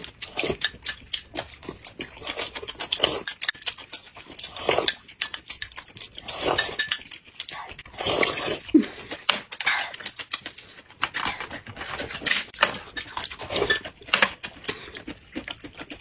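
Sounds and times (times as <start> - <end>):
people chewing noisily: 0.0 - 16.0.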